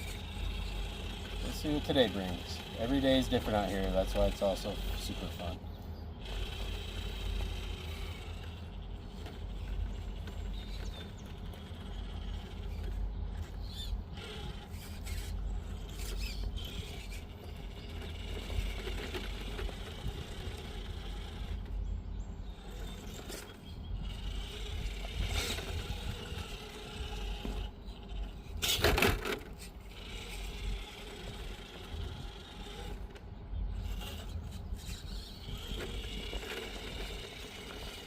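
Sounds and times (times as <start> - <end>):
small electric motor whining: 0.0 - 38.0.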